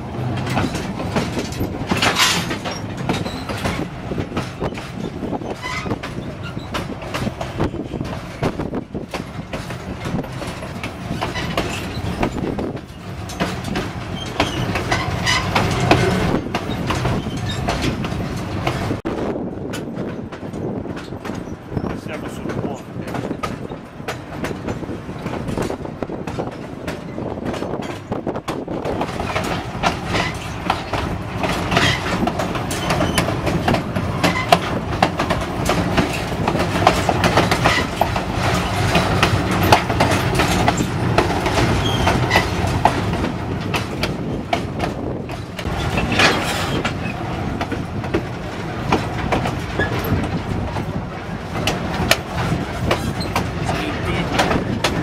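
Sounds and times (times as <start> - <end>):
train wheels clattering over rails: 0.0 - 55.0.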